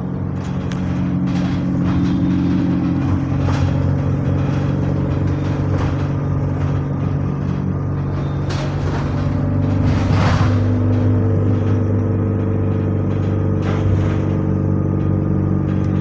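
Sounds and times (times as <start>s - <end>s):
bus engine droning: 0.0s - 16.0s
short rattles: 0.0s - 16.0s.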